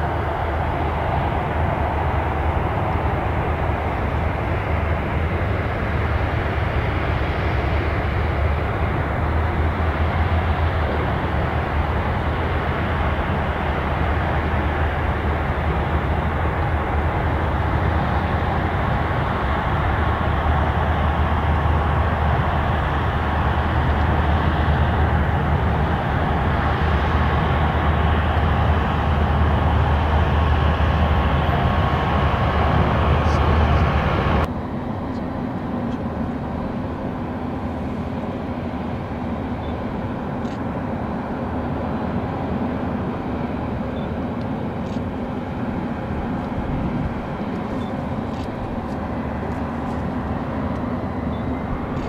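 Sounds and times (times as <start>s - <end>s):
airport noise: 0.0s - 52.0s
engine drone with low hum: 0.0s - 52.0s.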